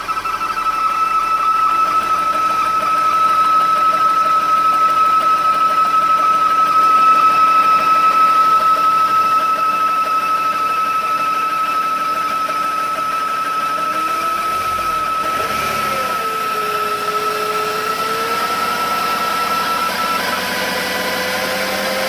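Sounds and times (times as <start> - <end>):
car engine idling: 0.0 - 22.0
high-pitched engine whistle: 0.0 - 22.0.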